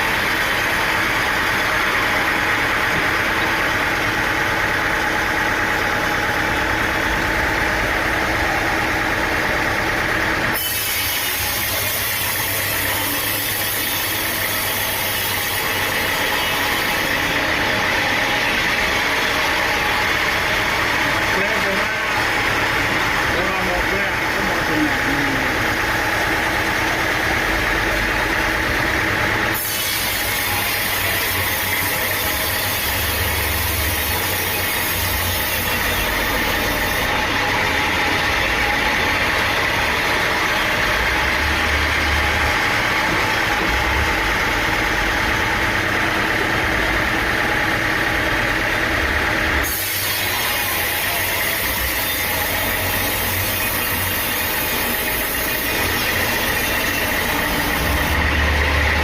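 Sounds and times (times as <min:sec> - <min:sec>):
high machinery whine: 0:00.0 - 0:59.0
sawmill engine hum: 0:00.0 - 0:59.0.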